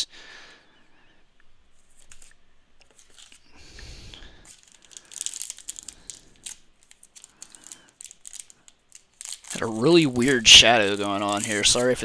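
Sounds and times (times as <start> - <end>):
plastic wrapper crinkling: 1.7 - 12.0
wrapper tearing open: 1.8 - 3.5, 4.1 - 12.0.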